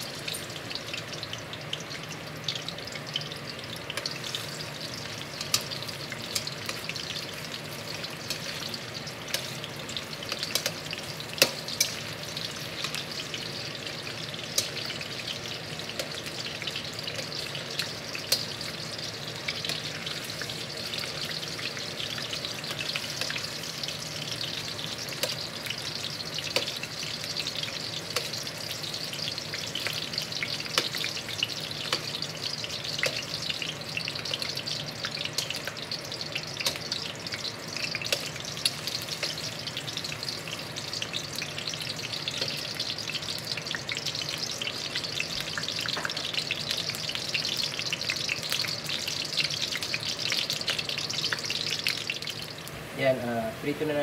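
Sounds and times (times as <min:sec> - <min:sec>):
onion rings sizzling in oil: 0:00.0 - 0:54.0.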